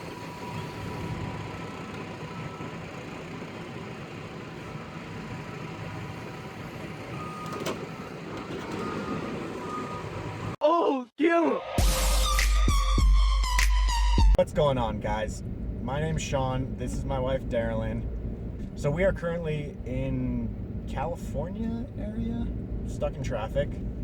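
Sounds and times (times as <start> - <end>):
traffic rumble with hiss: 0.0 - 10.6, 14.4 - 24.0.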